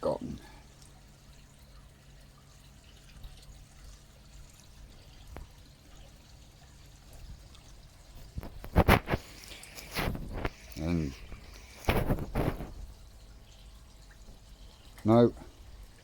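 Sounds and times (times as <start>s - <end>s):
pond water trickling: 0.0s - 16.0s.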